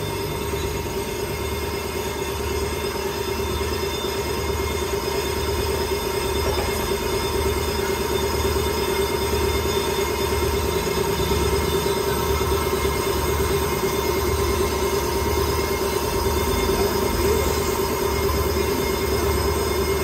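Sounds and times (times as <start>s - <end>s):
brake lathe metallic whine: 0.0s - 20.0s.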